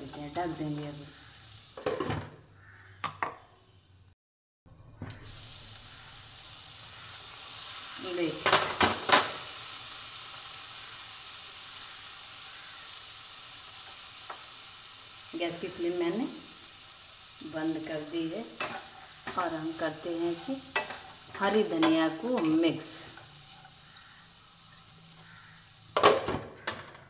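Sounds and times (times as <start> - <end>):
chickpeas sizzling in a pan: 0.0 - 2.0, 2.6 - 2.9, 5.2 - 26.3.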